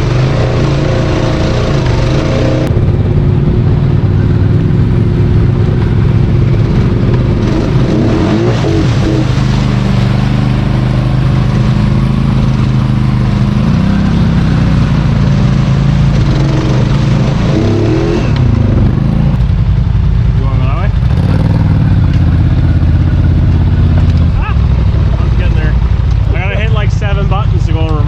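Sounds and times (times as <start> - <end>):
off-road vehicle engine running: 0.0 - 28.0.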